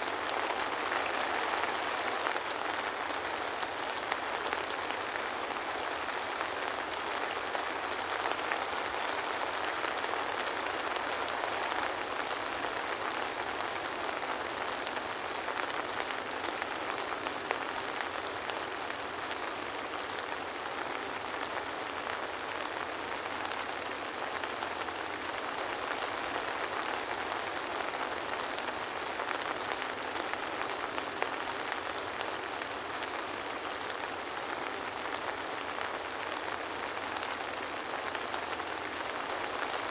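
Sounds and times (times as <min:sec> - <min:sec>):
soft rain pattering: 0:00.0 - 0:39.9.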